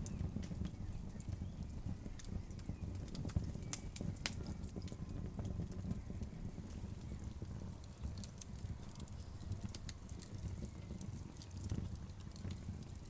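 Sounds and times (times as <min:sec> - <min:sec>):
log fire crackling: 0:00.0 - 0:13.0
low rumble of burning wood: 0:00.0 - 0:13.0.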